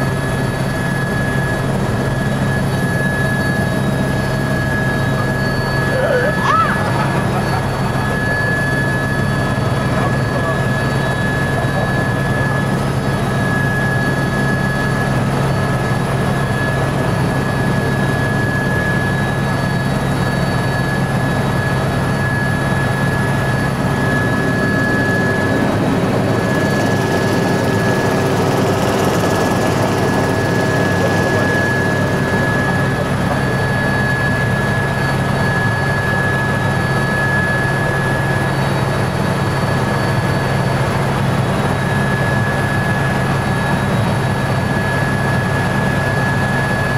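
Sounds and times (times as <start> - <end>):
helicopter rotor and engine drone: 0.0 - 46.9
high helicopter whine: 0.0 - 46.9.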